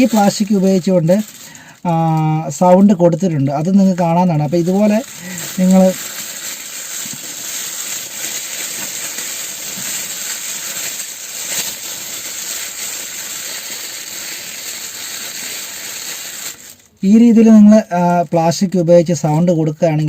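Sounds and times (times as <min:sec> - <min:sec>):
plastic foil crinkling: 0:00.0 - 0:17.5.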